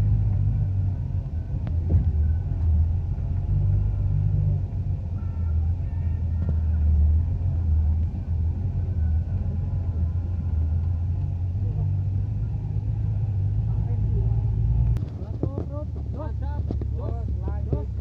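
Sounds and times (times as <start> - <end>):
off-road vehicle engine rumbling: 0.0 - 18.0.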